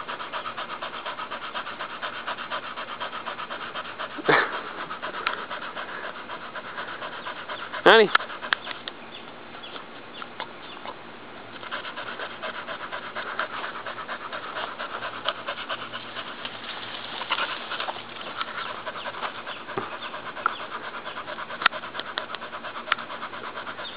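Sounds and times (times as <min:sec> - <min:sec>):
dog panting: 0:00.0 - 0:23.9.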